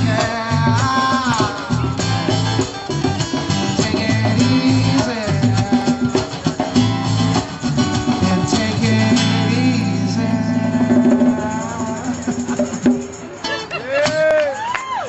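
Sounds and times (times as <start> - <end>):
bass notes: 0.0 - 13.4
electric guitar: 0.0 - 13.6
drums: 0.0 - 14.7.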